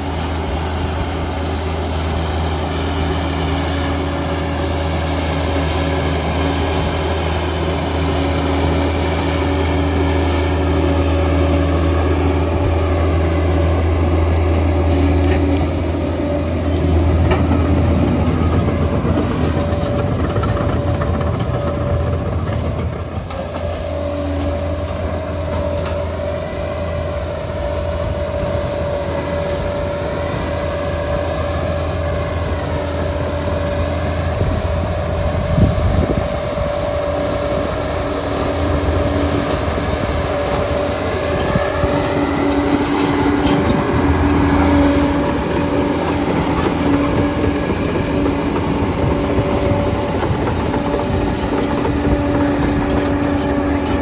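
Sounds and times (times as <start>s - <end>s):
diesel drone: 0.0s - 54.0s
steel tracks clattering: 0.0s - 54.0s.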